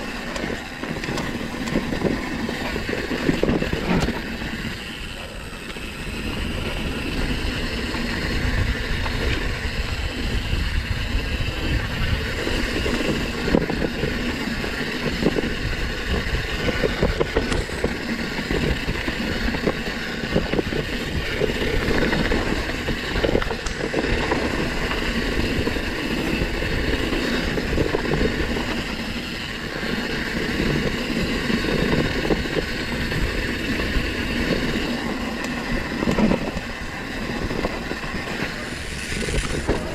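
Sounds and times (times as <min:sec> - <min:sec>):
bike tyres rumbling over dirt: 0:00.0 - 0:39.9
wind on microphone: 0:06.2 - 0:39.9.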